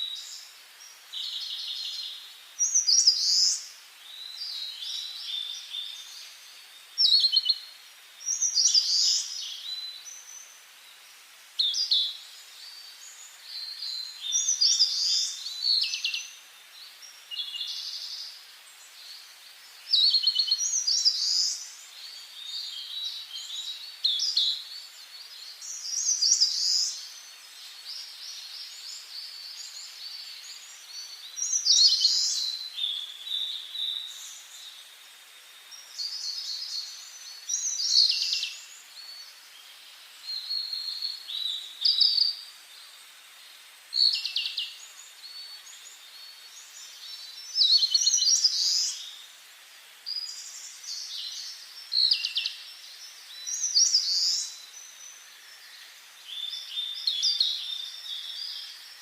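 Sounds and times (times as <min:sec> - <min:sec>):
faint steady hiss: 0:00.0 - 0:59.0
songbirds singing: 0:00.0 - 0:59.0.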